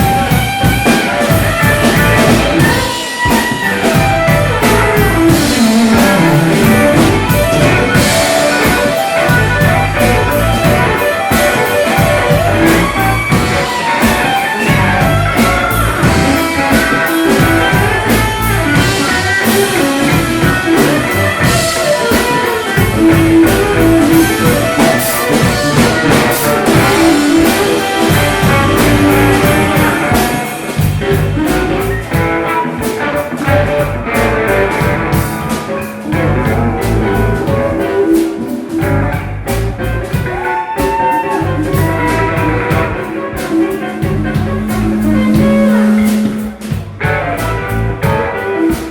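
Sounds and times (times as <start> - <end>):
blues-rock band playing: 0.0 - 48.9.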